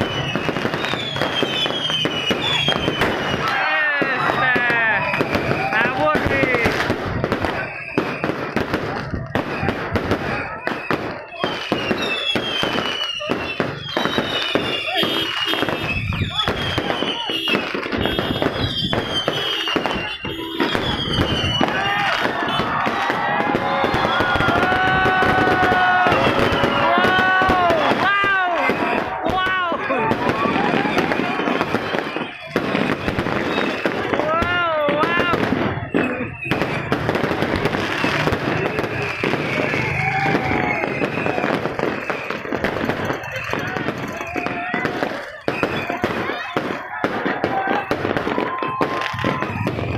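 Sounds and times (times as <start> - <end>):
descending firework whistles: 0.0 - 49.9
fireworks crackling and popping: 0.0 - 49.9.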